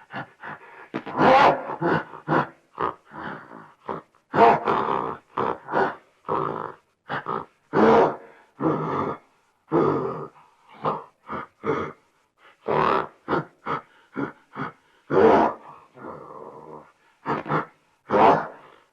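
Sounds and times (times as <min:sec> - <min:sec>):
animal grunting and growling: 0:00.0 - 0:12.0, 0:12.6 - 0:18.9.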